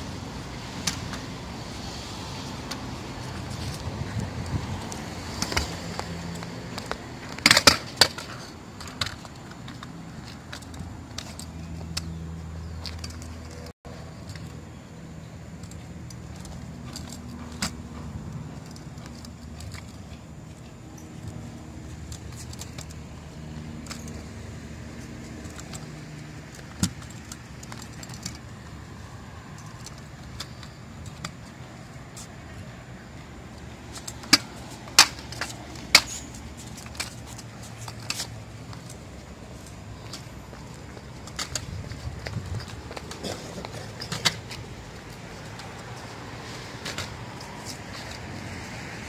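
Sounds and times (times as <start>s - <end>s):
scooter rolling over concrete: 0.4s - 48.8s
scooter clacking on ground: 2.4s - 48.5s.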